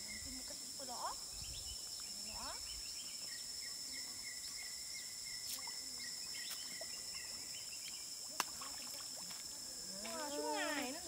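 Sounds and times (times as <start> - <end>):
high insect whine: 0.0 - 11.0.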